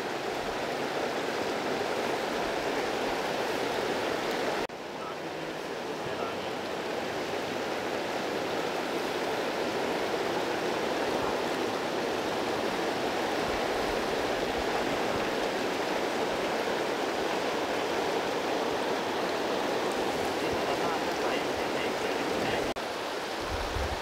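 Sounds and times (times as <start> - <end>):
river flowing over stones: 0.0 - 24.0.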